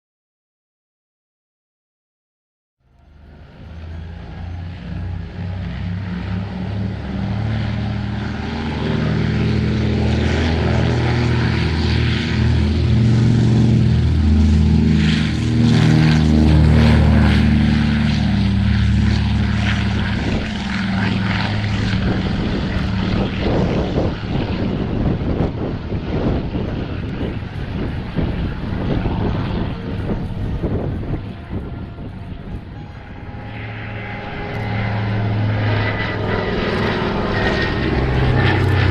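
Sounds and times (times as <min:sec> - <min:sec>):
aircraft engines in flight: 0:02.8 - 0:38.9.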